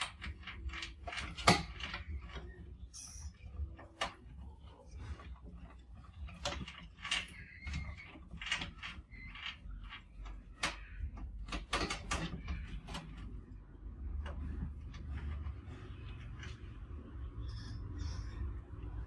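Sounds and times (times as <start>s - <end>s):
mice claws scratching on mesh: 0.0s - 16.8s.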